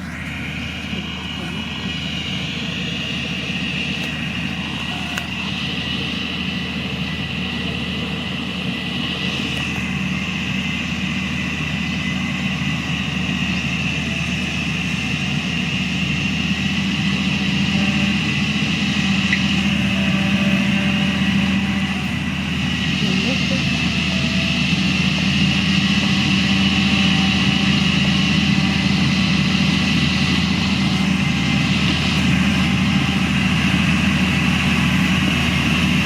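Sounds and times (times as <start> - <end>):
heavy machinery diesel engine: 0.0 - 36.0
steady high-pitched tone: 0.0 - 36.0.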